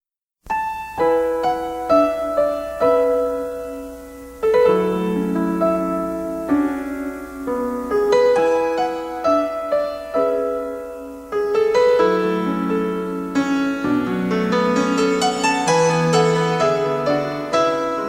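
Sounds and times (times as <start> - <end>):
gentle solo piano: 0.4 - 18.0.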